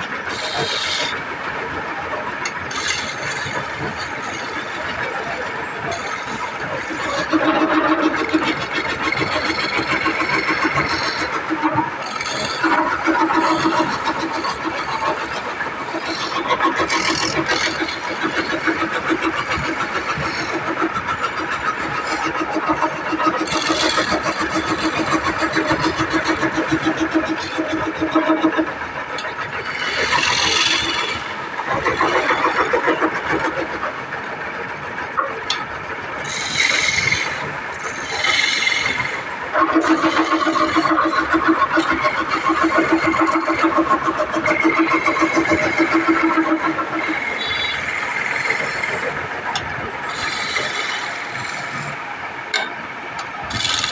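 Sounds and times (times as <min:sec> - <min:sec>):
chisel rasping on wood: 0:00.0 - 0:01.1, 0:02.4 - 0:05.1, 0:05.9 - 0:33.6, 0:36.2 - 0:51.9, 0:53.5 - 0:53.9
lathe motor hum: 0:00.0 - 0:53.9.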